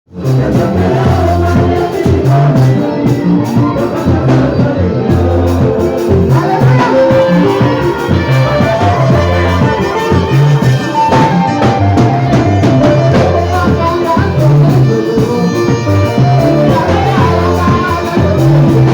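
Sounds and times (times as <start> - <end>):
bass line: 0.1 - 18.9
people singing: 0.1 - 18.9
drum kit beat: 0.2 - 18.9
melodic instruments: 0.6 - 18.9.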